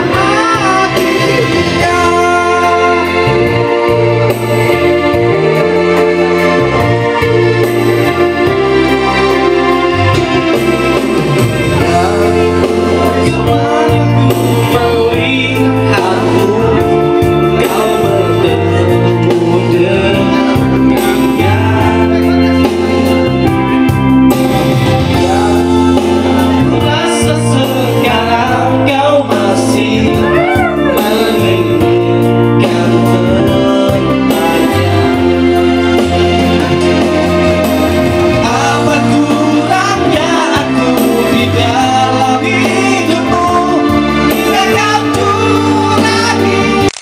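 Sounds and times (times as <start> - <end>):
person singing into microphone: 0.0 - 23.2, 25.0 - 47.0
electronic keyboard: 0.0 - 47.0.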